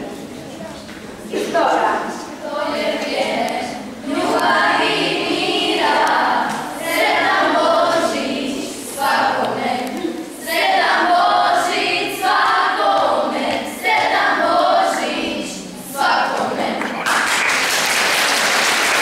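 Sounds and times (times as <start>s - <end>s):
girls choir singing: 1.1s - 17.1s.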